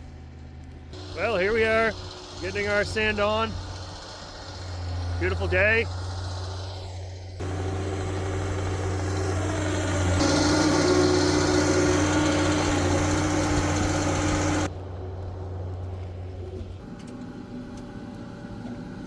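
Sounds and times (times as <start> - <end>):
diesel machinery engine droning: 0.0 - 19.0.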